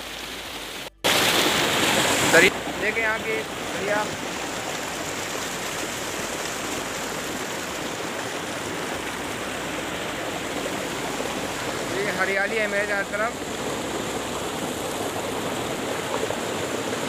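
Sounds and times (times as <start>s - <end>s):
river rushing over boulders: 0.0s - 17.0s.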